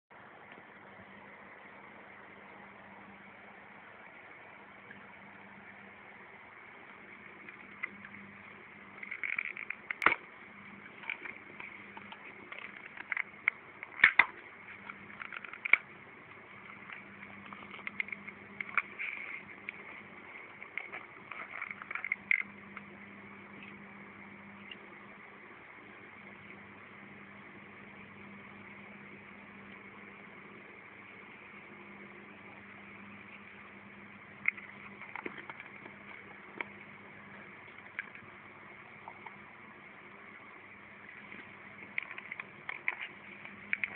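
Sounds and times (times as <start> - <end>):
low hum with hiss: 0.1 - 43.9.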